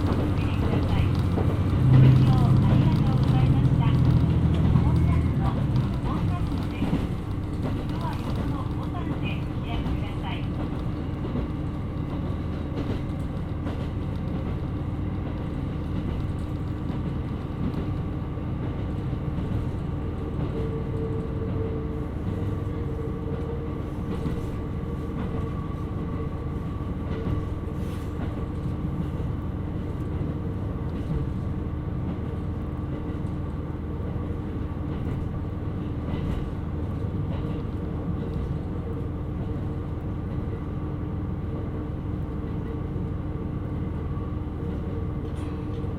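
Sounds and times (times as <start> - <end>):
railcar engine and wheels rumbling: 0.0 - 45.9.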